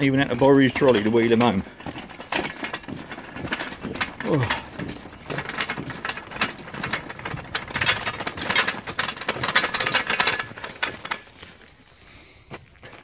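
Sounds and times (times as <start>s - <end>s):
hand trolley wheels clattering: 0.0s - 13.0s
metal tools rattling and clanking: 0.0s - 13.0s.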